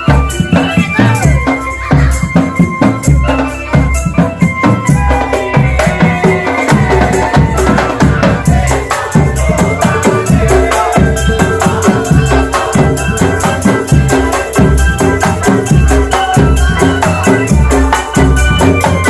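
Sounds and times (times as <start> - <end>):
drums and rattling percussion: 0.0 - 19.0
held melody line: 0.0 - 19.0.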